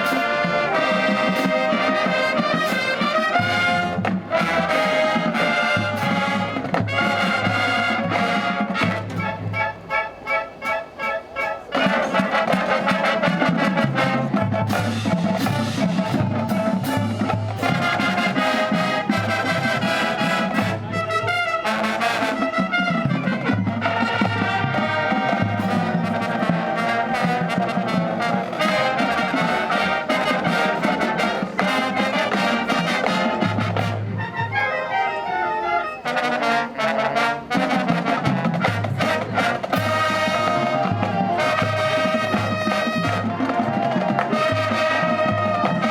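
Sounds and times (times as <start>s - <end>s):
marching band playing: 0.0s - 45.9s
trombones and trumpets: 0.0s - 45.9s.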